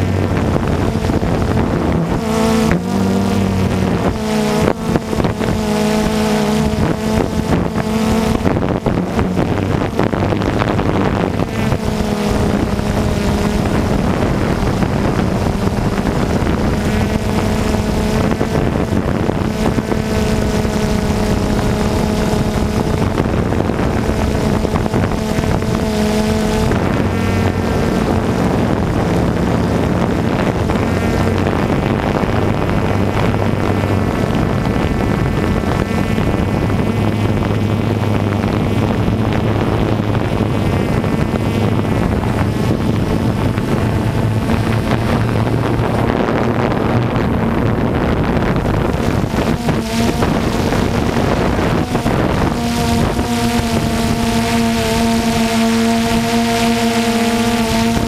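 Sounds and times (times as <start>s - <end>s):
drone motors humming: 0.0s - 58.0s
wind buffeting microphone: 0.0s - 58.0s.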